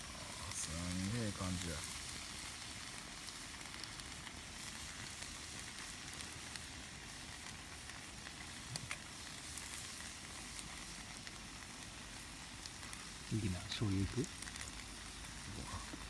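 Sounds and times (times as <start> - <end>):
campfire crackles and pops: 0.0 - 16.0
food sizzling in a frying pan: 0.0 - 16.0.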